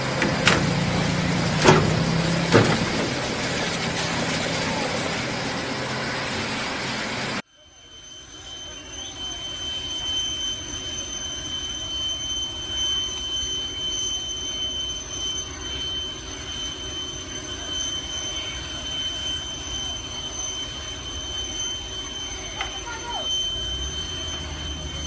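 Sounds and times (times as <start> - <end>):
jet engines running: 0.0 - 7.4, 10.6 - 25.0.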